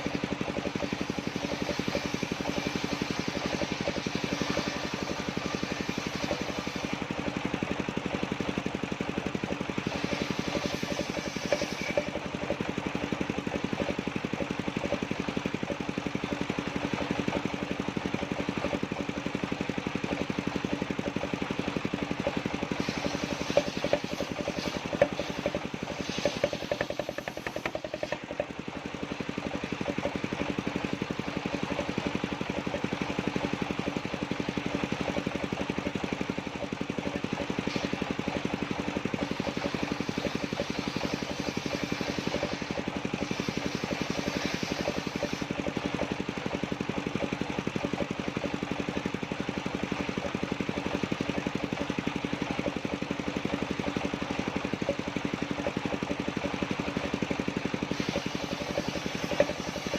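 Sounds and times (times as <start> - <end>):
saw engine humming: 0.0 - 59.9.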